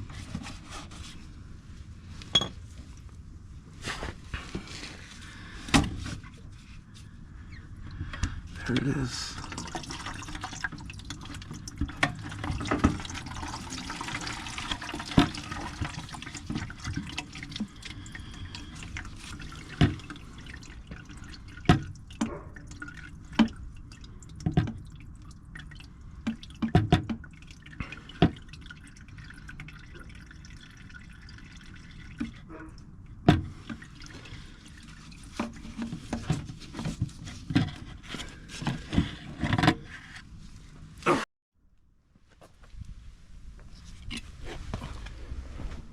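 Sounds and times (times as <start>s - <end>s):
diesel trickling and dripping: 1.6s - 39.3s.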